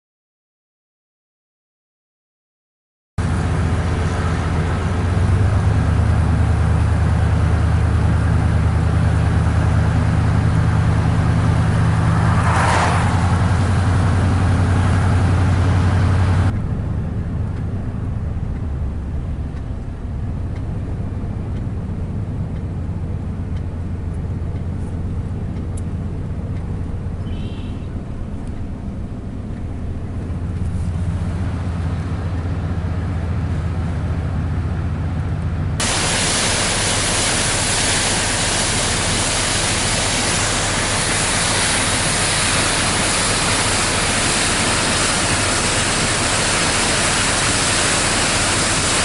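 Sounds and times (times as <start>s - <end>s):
road noise: 3.2s - 49.0s
truck engine hum: 3.2s - 49.0s.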